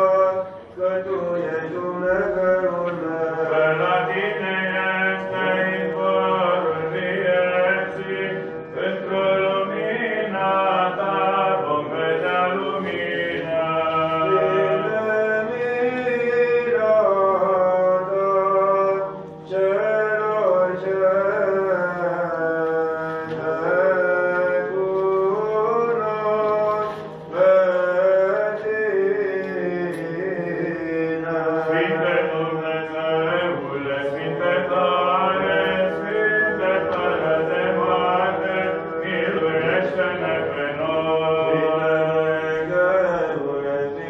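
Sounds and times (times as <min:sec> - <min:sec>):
sung chant melody: 0:00.0 - 0:44.0.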